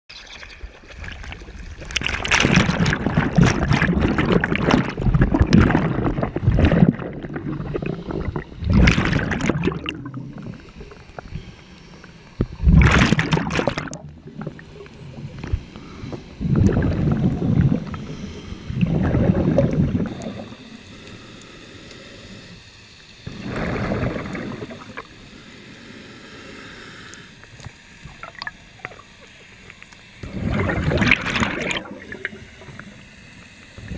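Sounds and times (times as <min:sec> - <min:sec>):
underwater water noise: 0:00.1 - 0:33.9
underwater regulator bubbling: 0:01.0 - 0:20.8, 0:23.3 - 0:25.2, 0:27.6 - 0:33.0.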